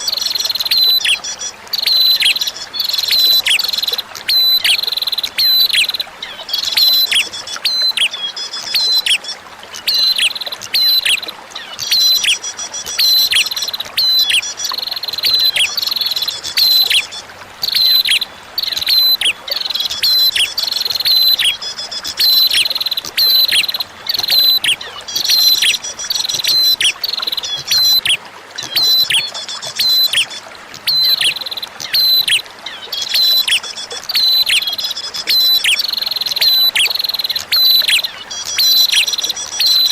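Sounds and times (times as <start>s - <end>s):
bird calls with trills: 0.0s - 39.9s
running water trickling: 0.0s - 39.9s.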